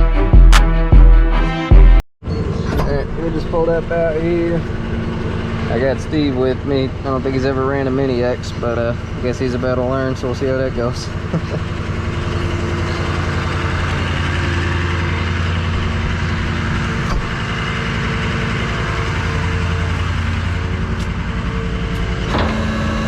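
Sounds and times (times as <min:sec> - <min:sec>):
truck engine running: 0:01.8 - 0:23.0.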